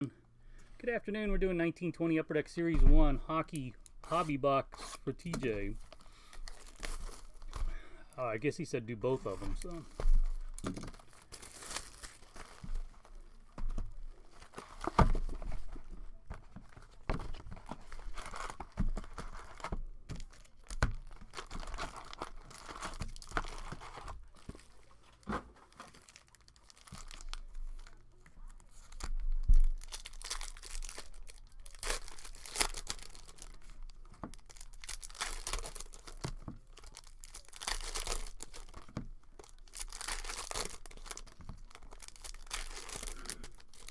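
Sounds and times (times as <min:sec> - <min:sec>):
wrapping torn and crinkled: 0:03.6 - 0:07.8, 0:09.0 - 0:43.9.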